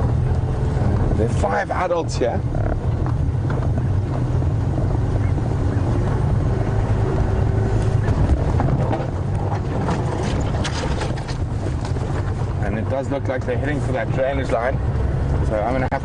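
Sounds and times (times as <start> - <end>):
rattles and clatters: 0.0 - 14.8
vehicle engine running: 0.0 - 16.0.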